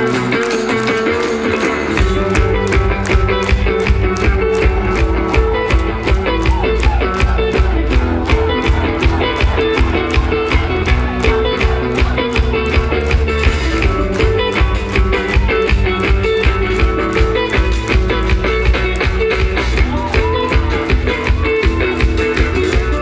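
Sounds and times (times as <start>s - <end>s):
distorted electric guitars: 0.0s - 23.0s
fast drumming with double bass drum: 0.8s - 23.0s.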